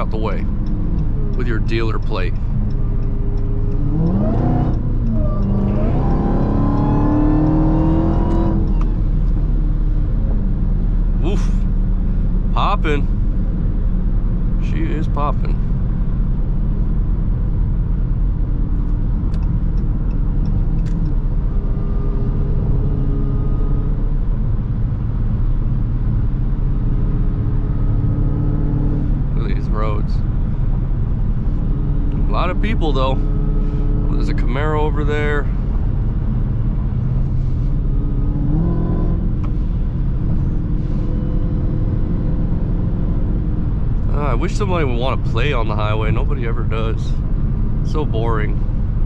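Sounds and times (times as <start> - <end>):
car engine cruising: 0.0 - 49.0
tyre and road noise: 0.0 - 49.0.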